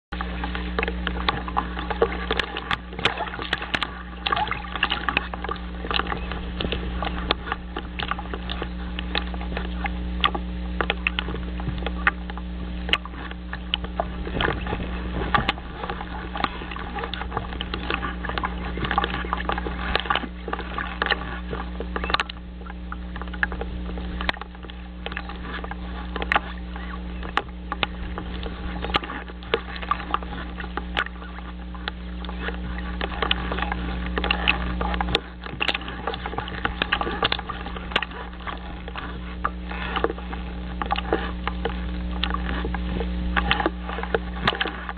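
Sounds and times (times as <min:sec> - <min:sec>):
electrical hum: 0:00.1 - 0:44.9
small waves lapping: 0:00.1 - 0:44.9.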